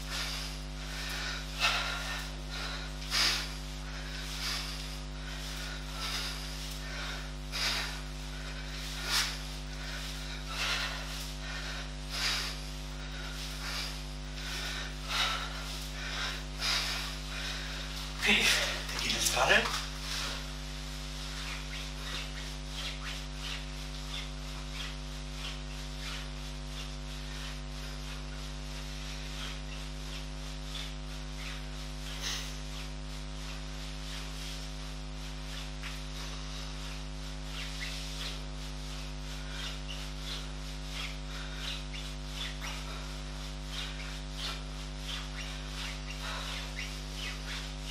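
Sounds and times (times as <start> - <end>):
body rubbing on gym mat: 0.0 - 47.9
electrical mains hum: 0.0 - 47.9
man breathing hard: 0.0 - 47.9.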